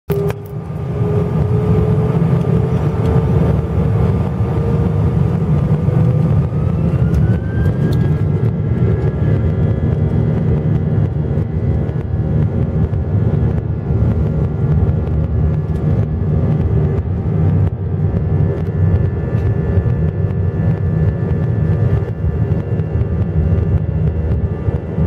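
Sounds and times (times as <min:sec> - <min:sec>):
rising engine whine: 0:00.1 - 0:25.0
jet engine spooling up: 0:00.2 - 0:25.0.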